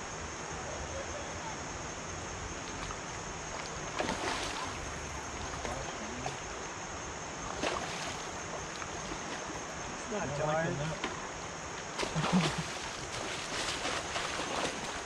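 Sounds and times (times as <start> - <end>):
high insect drone: 0.0 - 15.0
flowing river water: 0.1 - 15.0.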